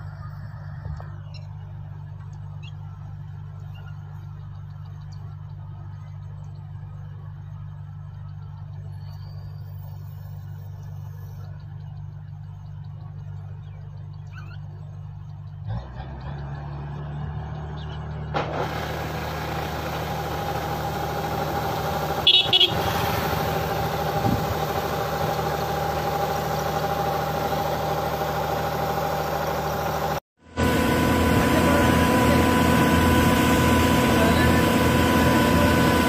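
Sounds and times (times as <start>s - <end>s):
combine harvester engine hum: 0.0s - 36.0s.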